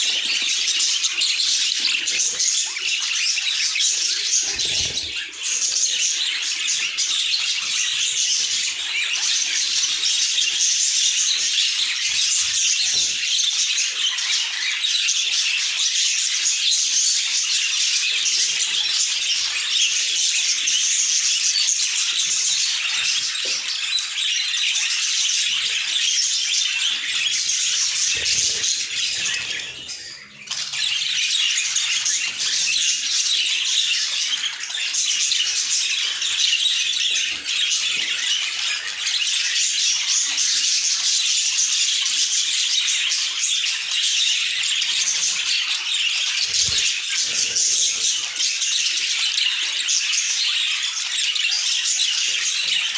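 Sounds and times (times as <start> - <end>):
budgerigars chirping: 0.0 - 52.9.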